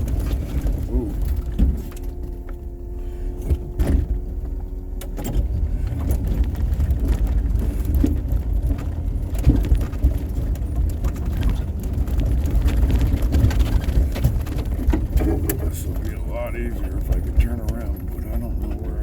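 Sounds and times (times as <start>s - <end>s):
rattles: 0.0s - 19.0s
snowplow engine rumbling: 0.0s - 19.0s.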